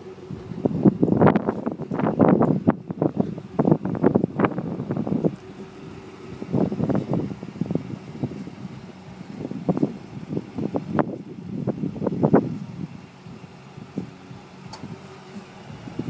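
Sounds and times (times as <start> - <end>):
pickup truck engine idling: 0.0 - 16.0.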